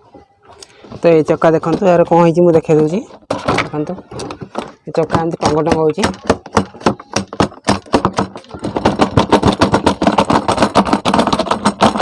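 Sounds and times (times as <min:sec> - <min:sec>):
toy wheel clattering on axle: 0:01.5 - 0:12.0.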